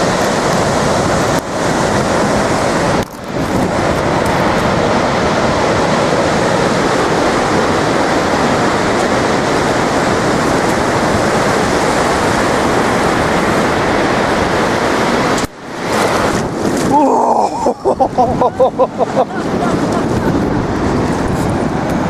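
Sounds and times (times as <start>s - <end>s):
sea surf breaking on shore: 0.0s - 22.0s.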